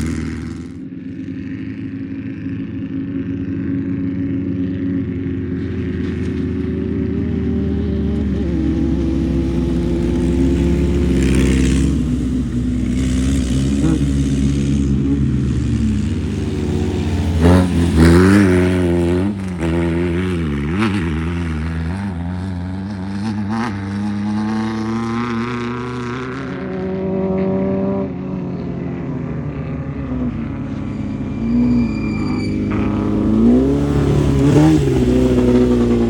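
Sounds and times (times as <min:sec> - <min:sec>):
race vehicle engines revving: 0:00.0 - 0:36.0.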